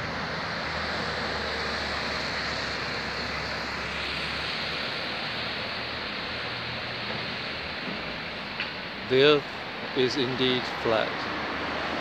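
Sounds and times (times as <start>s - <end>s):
bus driving past: 0.0s - 12.0s
street traffic noise: 0.0s - 12.0s.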